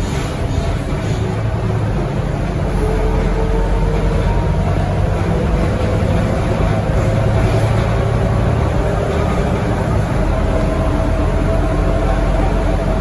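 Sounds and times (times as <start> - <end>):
bus diesel engine drone: 0.0 - 13.0
road noise: 0.0 - 13.0.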